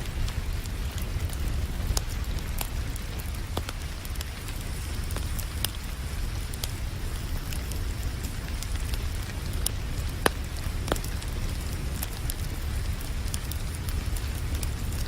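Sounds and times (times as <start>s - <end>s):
low continuous rumble: 0.0s - 15.0s
wood fire crackling and popping: 0.0s - 15.0s.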